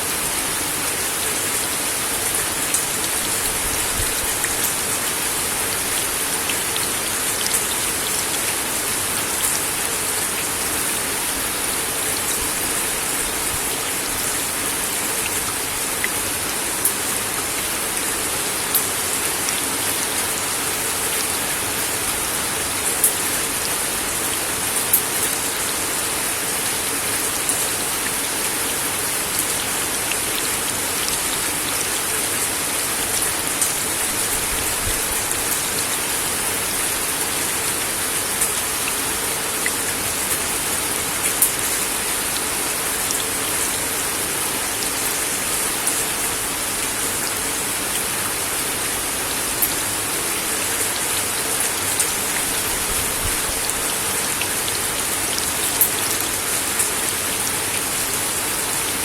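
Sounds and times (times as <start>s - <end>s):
rain on a wooden deck: 0.0s - 59.0s.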